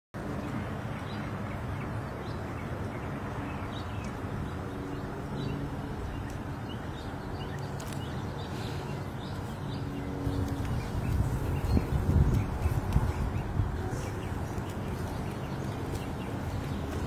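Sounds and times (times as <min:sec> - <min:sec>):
low street rumble and hum: 0:00.2 - 0:17.0
small birds chirping: 0:00.2 - 0:17.0.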